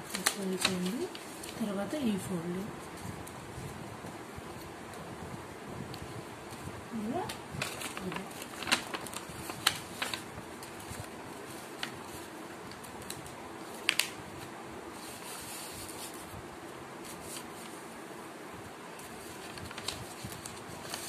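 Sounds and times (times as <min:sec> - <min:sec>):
paper rustling and crinkling: 0:00.0 - 0:05.1, 0:05.9 - 0:16.4, 0:17.0 - 0:18.0, 0:19.0 - 0:21.0
low background hum: 0:00.0 - 0:21.0.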